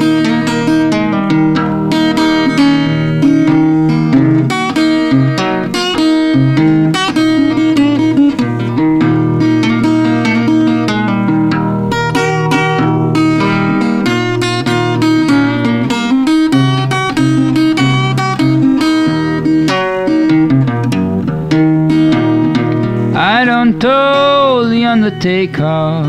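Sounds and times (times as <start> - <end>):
acoustic guitar blues: 0.0 - 26.0.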